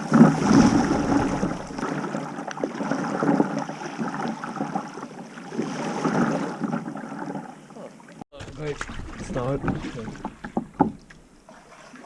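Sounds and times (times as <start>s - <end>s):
water sloshing around kayak: 0.0s - 12.0s.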